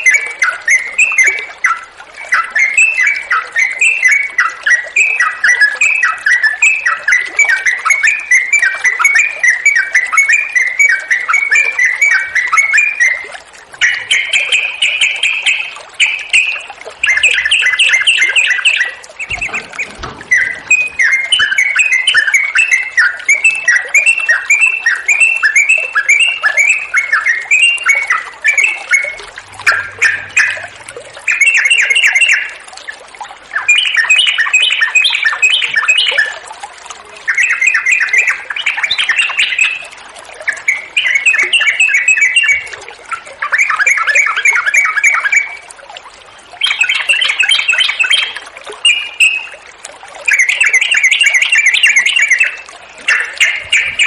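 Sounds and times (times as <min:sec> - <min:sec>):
bulbul singing bubbly chattering notes: 0:00.0 - 0:45.7, 0:46.6 - 0:54.0.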